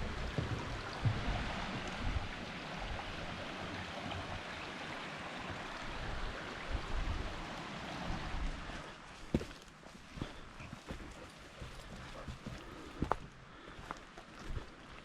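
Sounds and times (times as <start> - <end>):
water rushing in a brook: 0.0 - 13.2.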